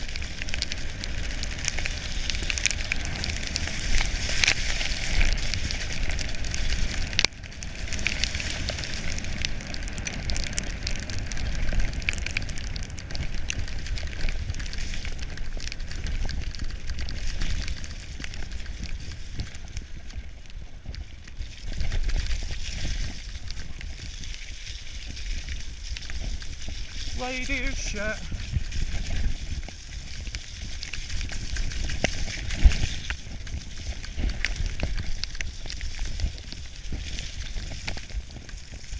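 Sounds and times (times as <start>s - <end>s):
bike rattling: 0.0s - 27.3s, 28.3s - 38.9s
bike tyres hissing through mud: 0.0s - 38.9s
crackles and clicks of mud spray: 0.0s - 38.9s
wind buffeting microphone: 0.0s - 38.9s.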